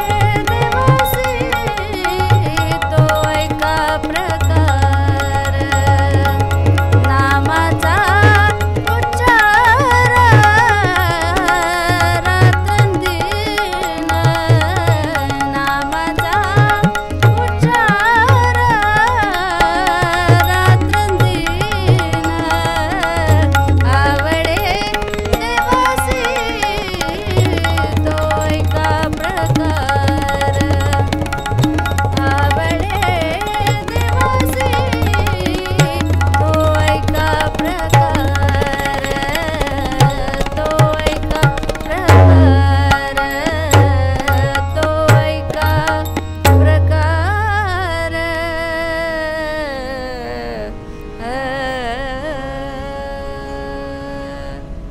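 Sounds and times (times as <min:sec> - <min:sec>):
tabla rhythm: 0:00.0 - 0:48.8
harmonium: 0:00.0 - 0:54.9
woman singing: 0:00.0 - 0:54.9.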